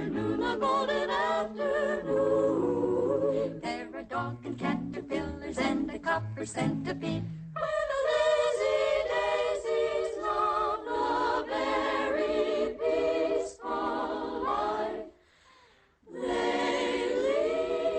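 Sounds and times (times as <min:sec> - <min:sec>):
choir singing held chords: 0:00.0 - 0:15.4, 0:16.0 - 0:17.9.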